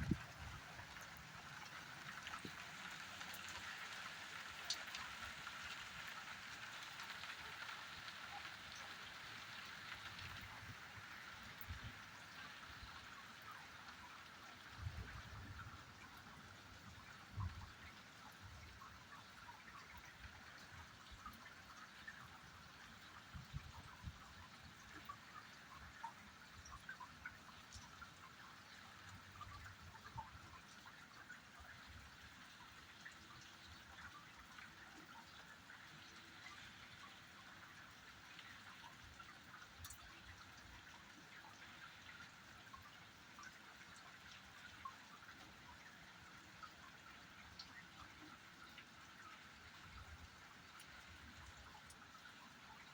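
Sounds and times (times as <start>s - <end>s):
faint steady rain: 0.0s - 52.9s.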